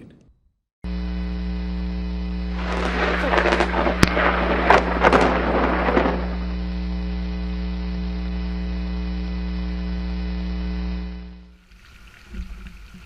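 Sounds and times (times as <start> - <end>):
low electrical buzzing hum: 0.8 - 11.6.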